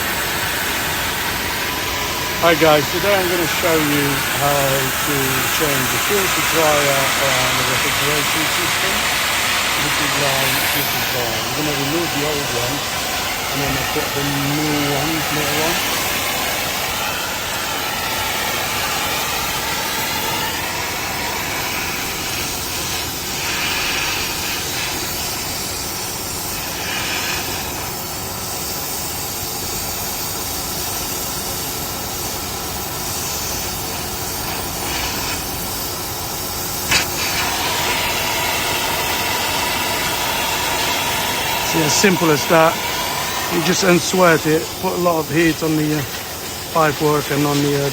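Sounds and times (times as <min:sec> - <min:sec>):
gas torch flame hissing: 0:00.0 - 0:47.9.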